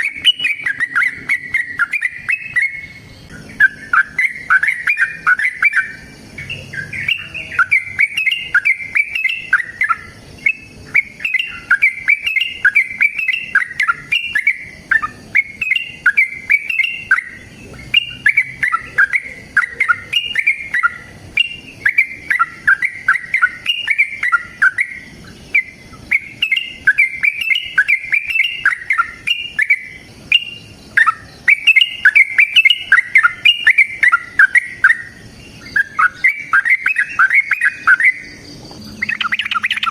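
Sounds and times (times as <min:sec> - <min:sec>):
bird singing bubbling notes: 0:00.0 - 0:39.9.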